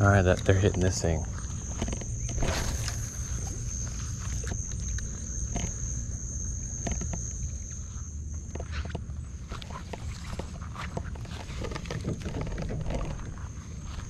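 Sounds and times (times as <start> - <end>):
insects buzzing high-pitched: 0.0 - 14.0.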